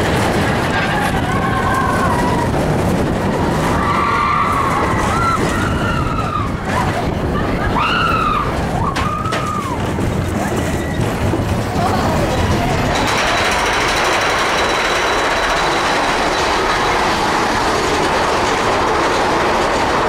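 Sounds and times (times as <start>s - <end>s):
roller coaster wheels rumbling: 0.0s - 20.0s.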